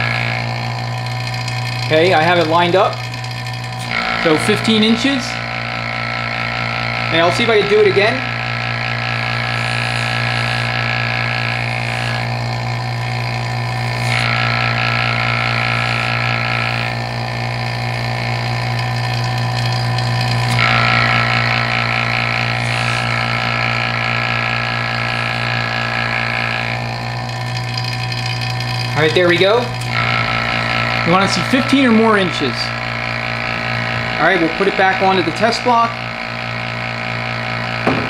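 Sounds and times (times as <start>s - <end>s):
vacuum pump humming: 0.0s - 38.0s.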